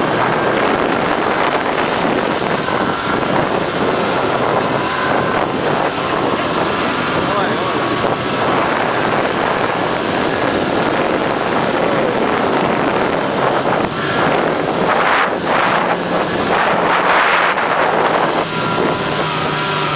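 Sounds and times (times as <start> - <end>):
snowmobile engine roaring: 0.0 - 19.9
wind on microphone: 0.0 - 19.9.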